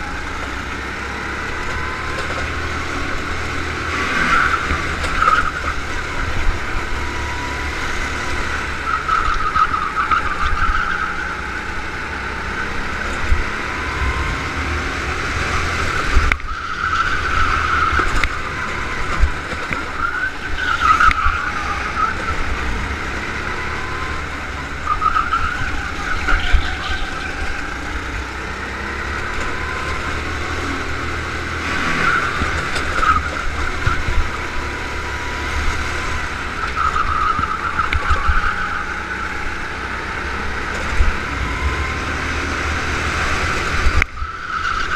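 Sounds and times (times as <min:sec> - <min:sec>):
go-kart engine revving: 0:00.0 - 0:44.9
wind and vibration rumble: 0:00.0 - 0:44.9.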